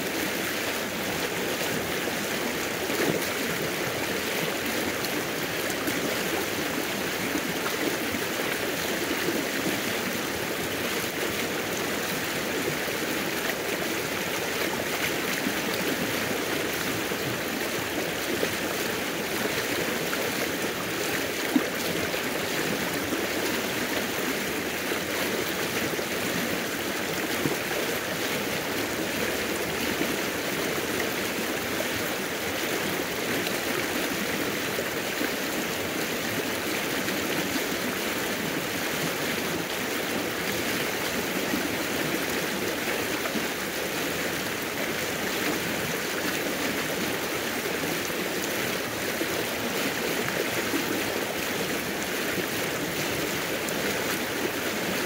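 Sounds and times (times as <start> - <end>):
river babbling: 0.0 - 55.0.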